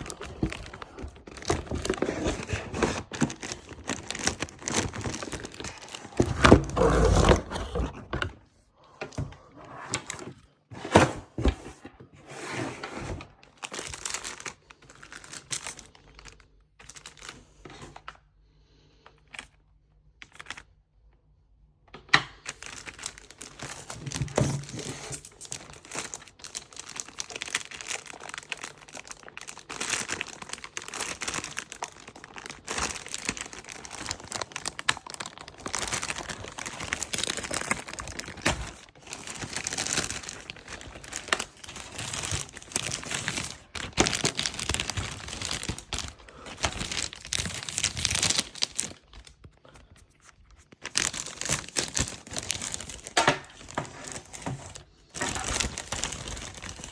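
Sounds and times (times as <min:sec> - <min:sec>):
packaging crinkling and rustling: 0:00.0 - 0:08.5, 0:09.1 - 0:18.1, 0:22.4 - 0:56.9.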